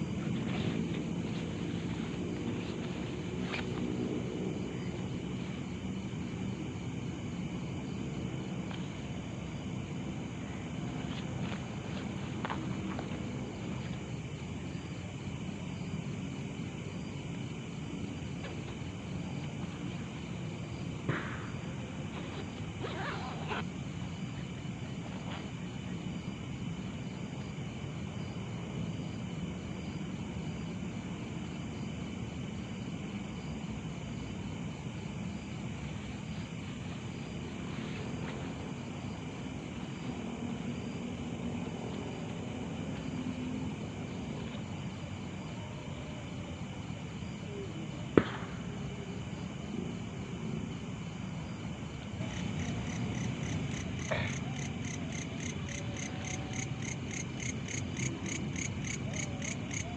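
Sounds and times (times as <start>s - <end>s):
night insects chirping: 0.0s - 59.9s.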